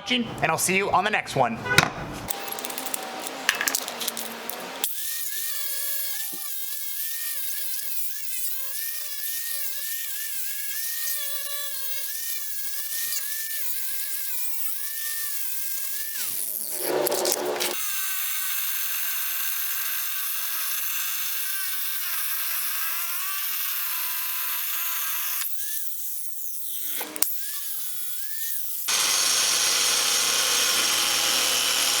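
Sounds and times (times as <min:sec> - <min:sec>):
angle grinder whining: 0:02.3 - 0:32.0.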